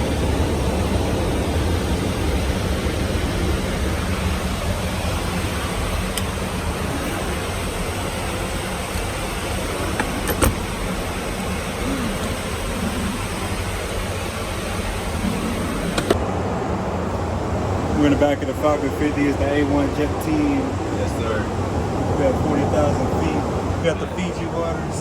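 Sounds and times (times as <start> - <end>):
jet cabin airflow and engine drone: 0.0 - 25.0.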